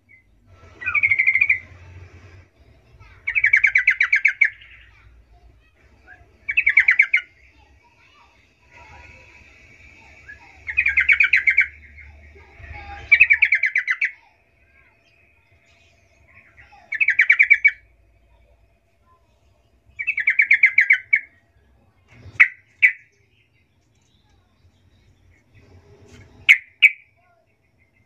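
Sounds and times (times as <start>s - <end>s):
bird singing fast repeated notes: 0.0s - 1.8s, 2.6s - 21.7s, 22.3s - 25.7s, 26.4s - 28.0s.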